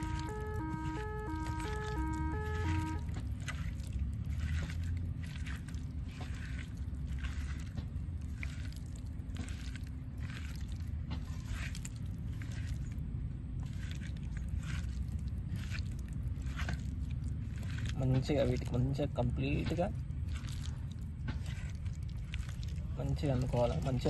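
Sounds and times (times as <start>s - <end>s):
hand squelching in marinade: 0.0s - 24.0s
steady low rumble: 0.0s - 24.0s.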